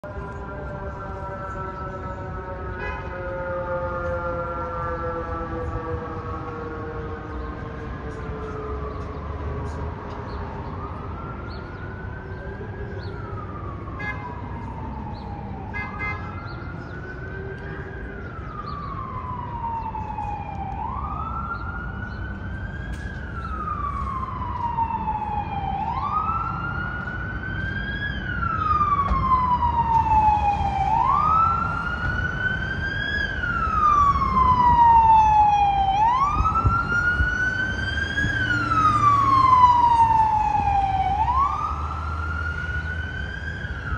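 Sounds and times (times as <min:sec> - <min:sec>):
city traffic hum: 0:00.0 - 0:43.9
fire siren wailing: 0:00.0 - 0:43.9.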